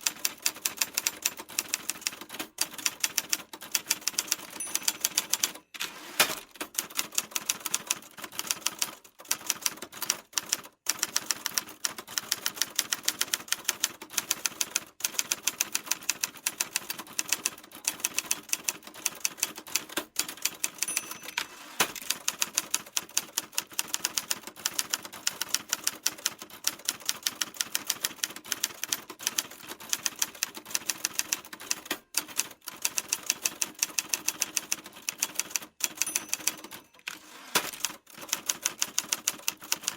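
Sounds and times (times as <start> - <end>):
typewriter keys clacking: 0.0 - 39.9.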